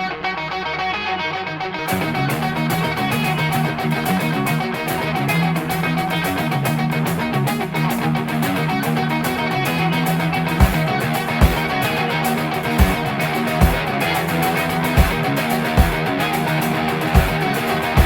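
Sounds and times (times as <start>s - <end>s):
guitar-led background music: 0.0s - 18.0s.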